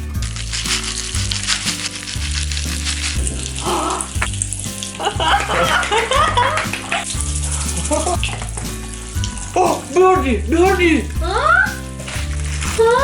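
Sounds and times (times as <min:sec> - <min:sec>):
music with stepping bass line: 0:00.0 - 0:13.0.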